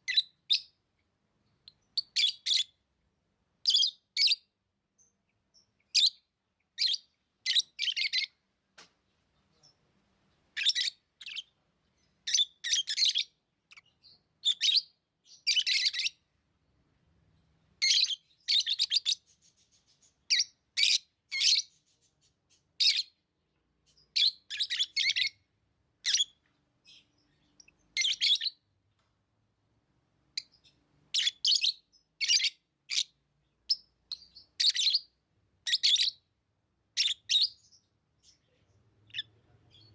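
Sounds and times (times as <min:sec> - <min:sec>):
lovebirds chirping: 0:00.0 - 0:29.0, 0:30.2 - 0:36.3, 0:36.9 - 0:39.9.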